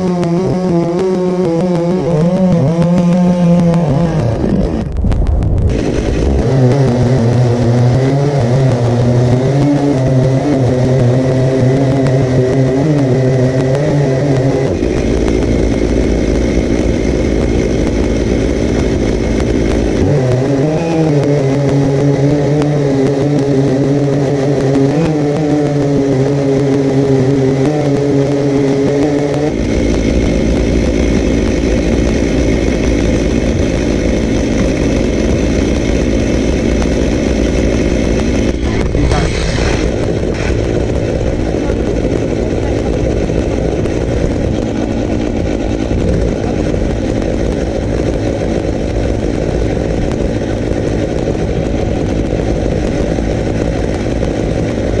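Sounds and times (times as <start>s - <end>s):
chainsaws cutting log: 0.0s - 5.0s, 5.7s - 47.7s.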